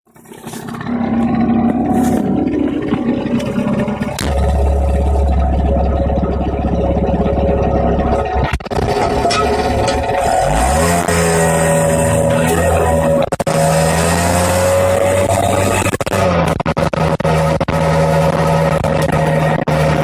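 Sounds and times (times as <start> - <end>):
loud engine exhaust: 0.2 - 20.0.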